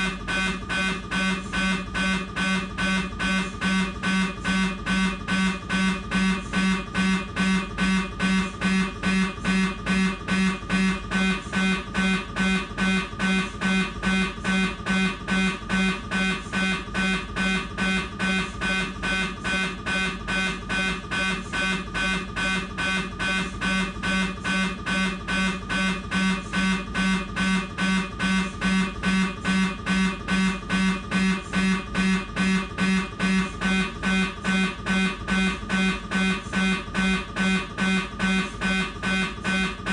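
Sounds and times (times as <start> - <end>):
mri scanner buzzing pulses: 0.0 - 39.9.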